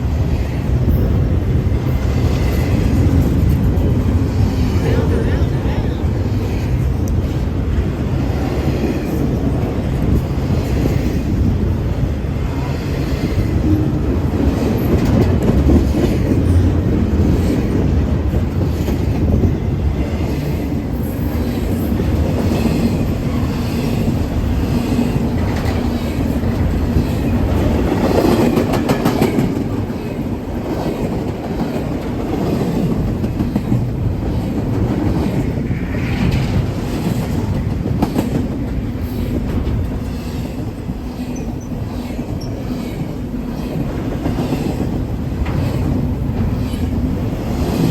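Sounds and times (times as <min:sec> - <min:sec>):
train rumbling past: 0:00.0 - 0:47.9.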